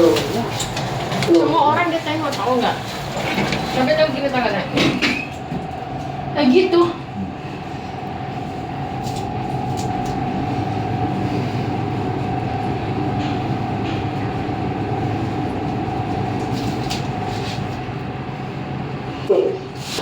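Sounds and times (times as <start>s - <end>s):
lift car rumble and whine: 0.0s - 20.0s.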